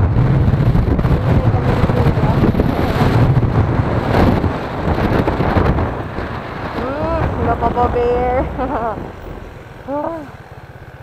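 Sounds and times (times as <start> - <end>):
wind buffeting microphone: 0.0 - 10.4
road noise: 0.0 - 11.0
scooter engine: 0.0 - 11.0.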